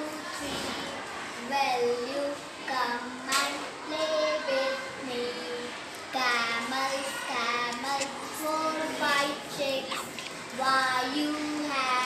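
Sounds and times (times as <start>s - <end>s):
girl singing: 0.0s - 12.0s.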